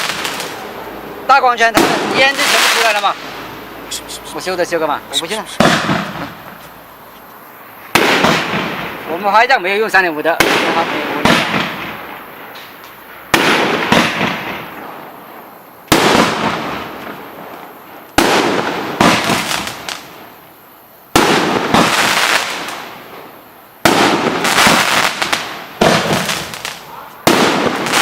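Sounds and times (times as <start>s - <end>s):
firework bangs: 0.0s - 20.4s, 21.1s - 28.0s
firework crackling pops: 0.0s - 20.5s, 21.1s - 28.0s.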